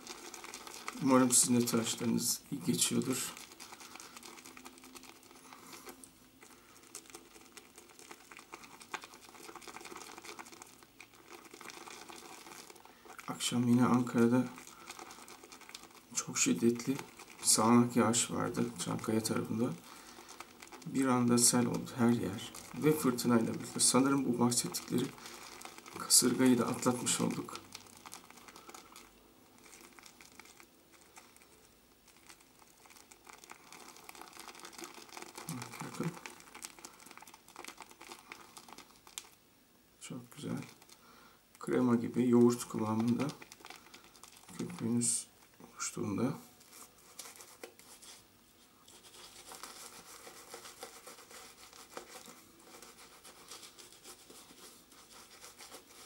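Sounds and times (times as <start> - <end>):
shaving brush swirling in soap: 0.0 - 39.2, 41.8 - 45.3, 48.8 - 56.0.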